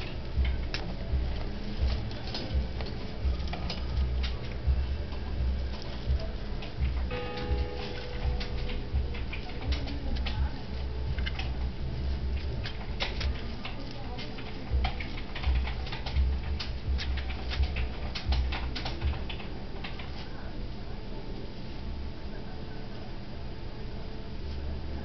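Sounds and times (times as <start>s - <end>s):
rats clicking and scratching: 0.0s - 20.5s.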